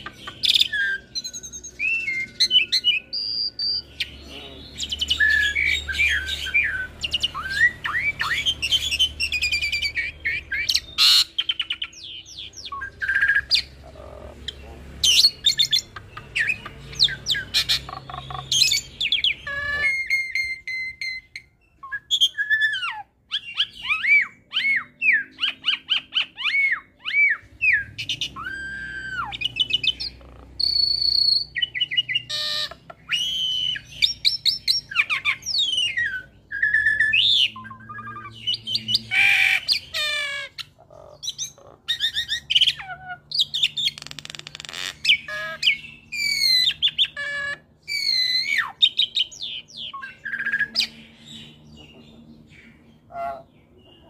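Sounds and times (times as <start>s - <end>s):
harsh rasping bird call: 0.0s - 21.4s, 22.1s - 51.5s
starling singing: 0.0s - 54.0s.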